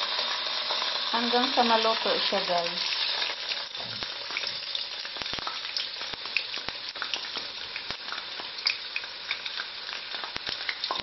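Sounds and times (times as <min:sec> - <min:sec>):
tofu sizzling in oil: 0:00.0 - 0:11.0.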